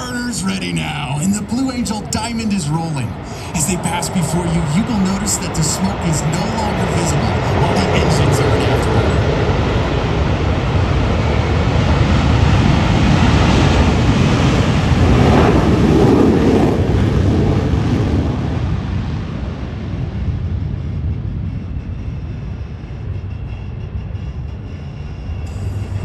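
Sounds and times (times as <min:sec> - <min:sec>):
jets taking off in afterburner: 0:00.0 - 0:26.0.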